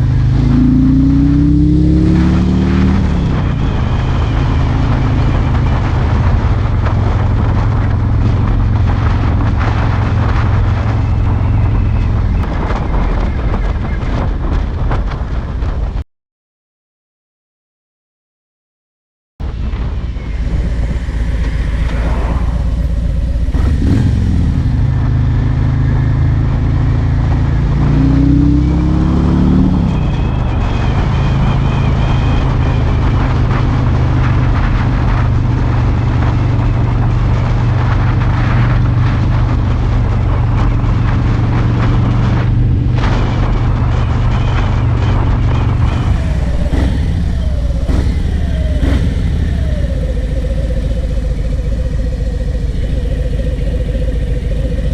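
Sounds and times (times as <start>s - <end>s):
motorcycle engine shifting gears: 0.0s - 15.9s, 19.5s - 54.9s.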